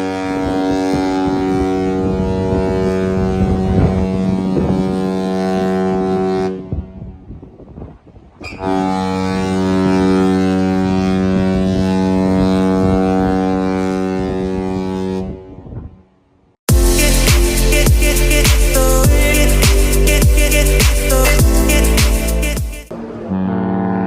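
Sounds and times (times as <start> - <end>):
ship air horn blasts: 0.0 - 7.3, 8.5 - 15.7, 16.7 - 24.0.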